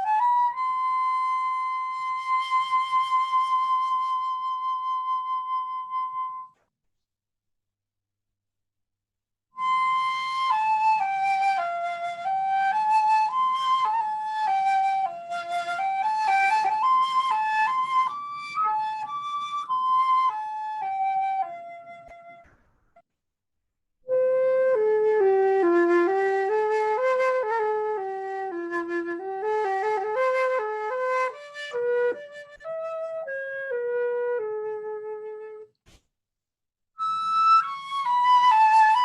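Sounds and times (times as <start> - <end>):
solo flute melody: 0.0 - 6.7, 9.6 - 22.6, 24.0 - 35.7, 37.0 - 39.0.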